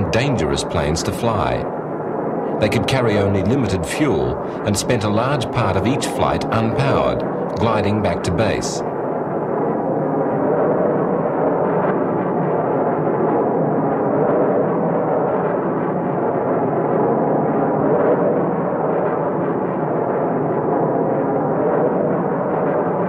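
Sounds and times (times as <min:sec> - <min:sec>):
rocket engine rumbling: 0:00.0 - 0:23.0.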